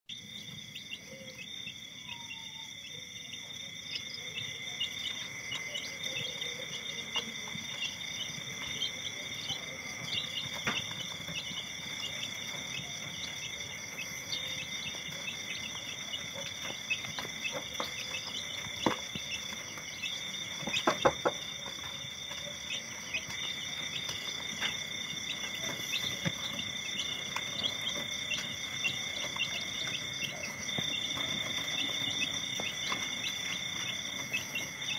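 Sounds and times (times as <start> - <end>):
chicks peeping: 0.1 - 34.9
night insects chirping: 0.1 - 34.9.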